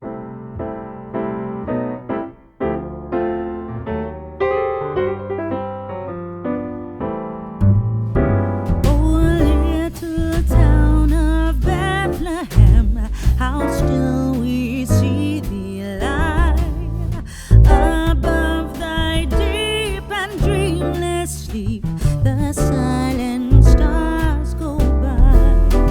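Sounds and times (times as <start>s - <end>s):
bass line: 2.7s - 25.9s.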